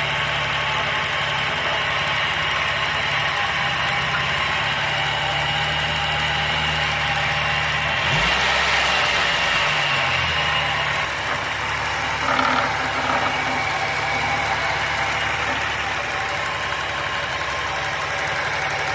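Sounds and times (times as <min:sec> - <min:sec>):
car engine idling: 0:00.0 - 0:18.9
engine knocking: 0:00.0 - 0:18.9.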